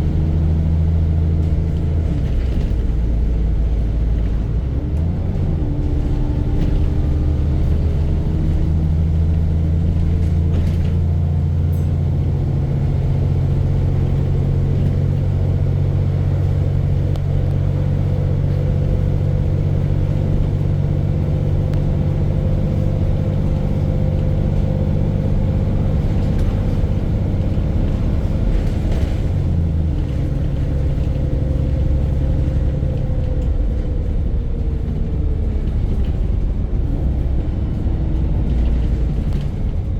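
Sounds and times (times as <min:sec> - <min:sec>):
diesel bus engine knocking: 0:00.0 - 0:39.9.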